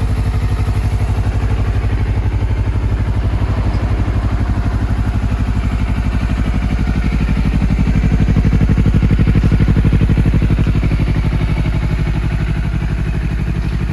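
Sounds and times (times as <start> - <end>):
motorcycle engine idling: 0.0 - 13.9.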